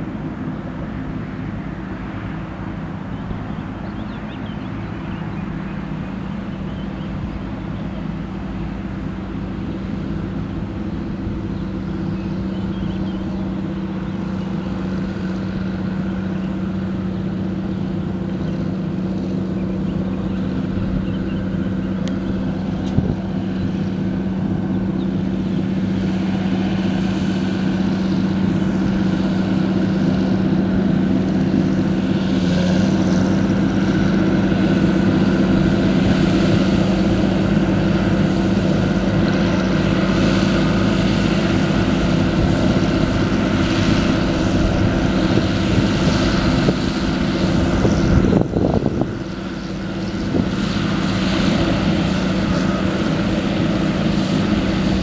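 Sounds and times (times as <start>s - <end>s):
tractor engine and mulcher drone: 0.0s - 55.0s.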